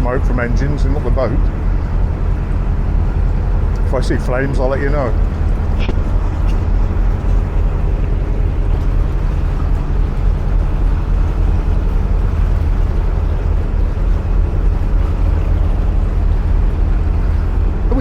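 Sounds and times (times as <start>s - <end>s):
boat diesel engine droning: 0.0s - 18.0s.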